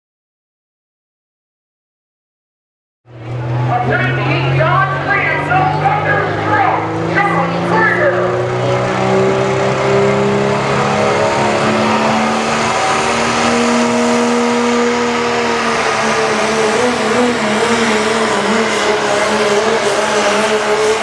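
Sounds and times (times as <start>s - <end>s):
diesel engine at full throttle: 3.1s - 21.0s.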